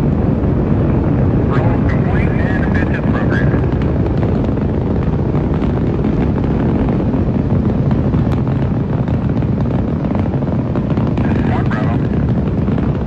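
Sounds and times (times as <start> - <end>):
rocket engines rumbling: 0.0 - 13.0.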